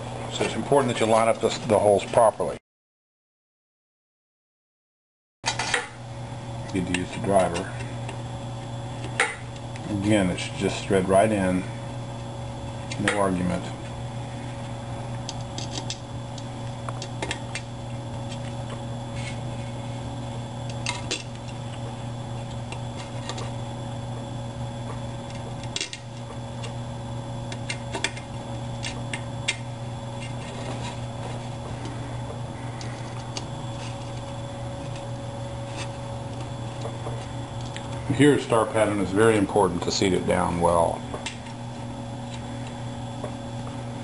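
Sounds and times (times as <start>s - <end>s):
steady low hum: 0.0s - 2.6s, 5.4s - 44.0s.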